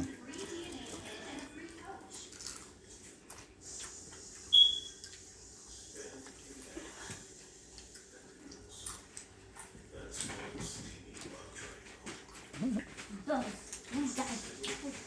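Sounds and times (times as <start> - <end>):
eating clicks and rustles: 0.0 - 15.0.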